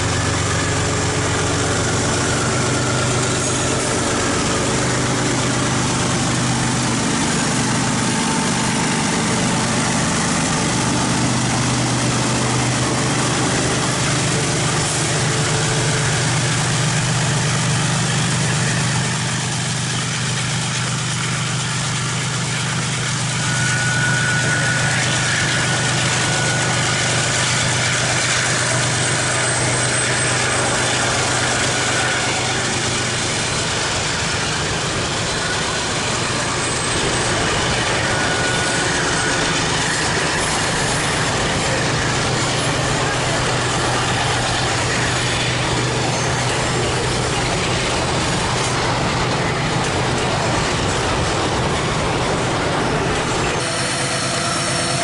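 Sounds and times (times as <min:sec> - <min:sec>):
thin high tone: 0:00.0 - 0:50.5, 0:52.8 - 0:55.0
diesel locomotive engine droning: 0:00.0 - 0:55.0.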